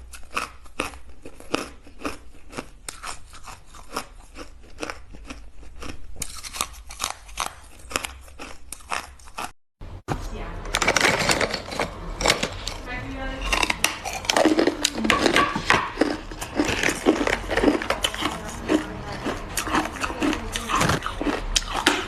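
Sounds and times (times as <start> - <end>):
ice being chewed: 0.0 - 9.6, 10.8 - 22.0.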